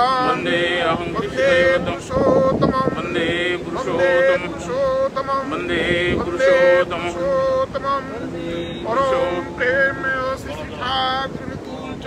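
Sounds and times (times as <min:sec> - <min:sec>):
voices chanting: 0:00.0 - 0:12.0.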